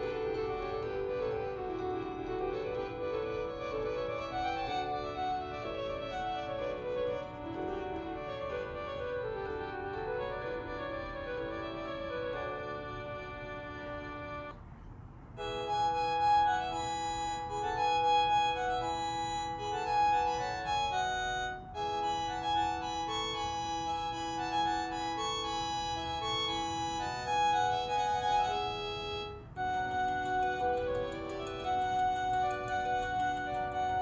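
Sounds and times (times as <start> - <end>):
electronic ringtone melody: 0.0 - 14.5, 15.4 - 34.0.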